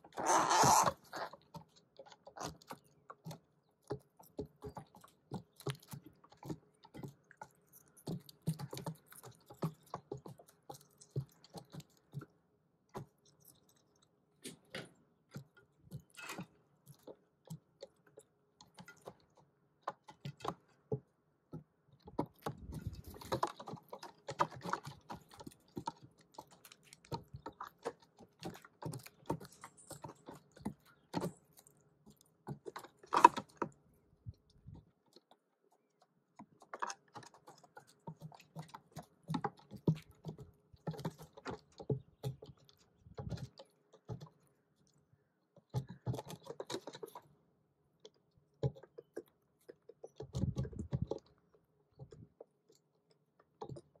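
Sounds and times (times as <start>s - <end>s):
beaks pecking at boards: 0.0s - 54.0s.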